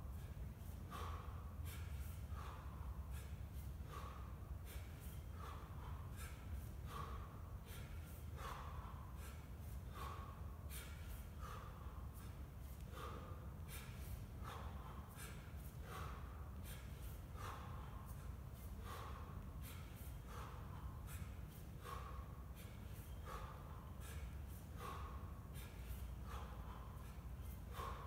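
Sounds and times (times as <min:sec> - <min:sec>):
man breathing hard: 0:00.0 - 0:28.0
steady low hum: 0:00.0 - 0:28.0.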